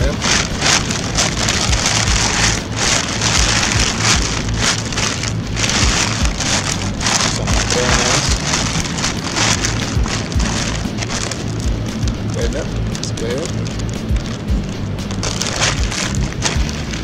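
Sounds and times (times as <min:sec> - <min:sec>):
foil bag crinkling and rustling: 0:00.0 - 0:17.0.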